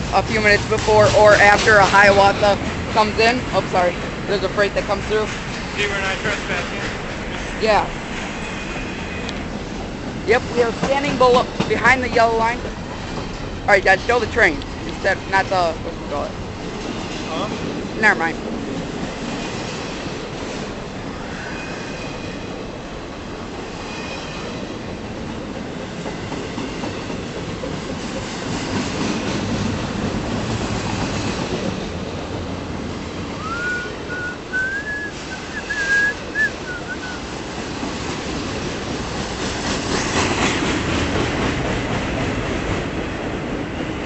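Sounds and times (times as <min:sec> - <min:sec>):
freight train wheels clattering on rail: 0:00.0 - 0:44.0.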